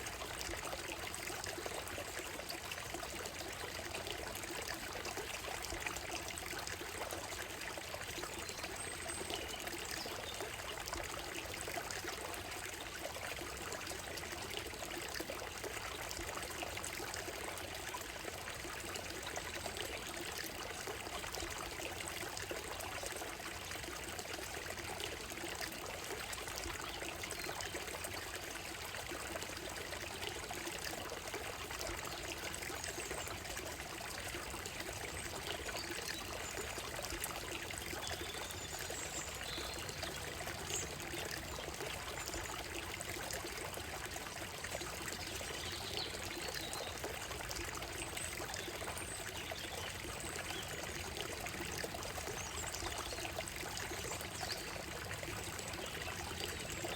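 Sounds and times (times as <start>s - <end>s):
stream trickling over stones: 0.0s - 56.9s.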